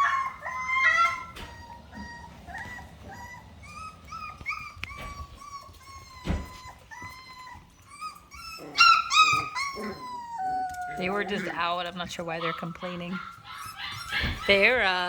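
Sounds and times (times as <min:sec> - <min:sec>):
puppies whining: 0:00.0 - 0:15.0.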